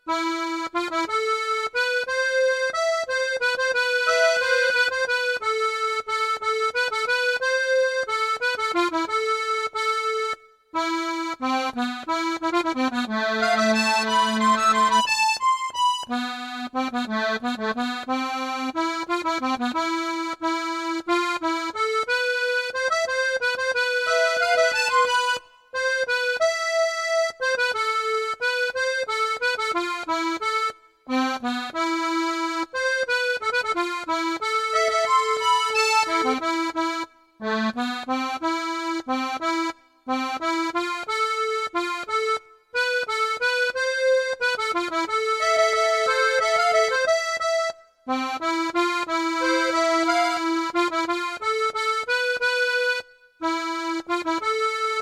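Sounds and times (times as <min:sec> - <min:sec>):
accordion slow melody: 0:00.0 - 0:55.0.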